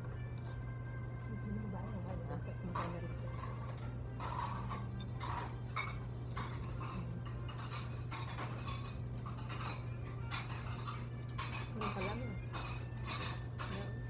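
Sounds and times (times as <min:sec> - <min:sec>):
tableware clinking on dishes: 0:02.6 - 0:14.0.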